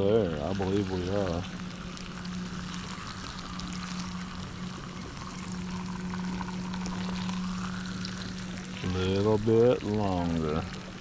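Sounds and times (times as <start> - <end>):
meat sizzling: 0.0 - 10.6
low hum: 0.0 - 11.0.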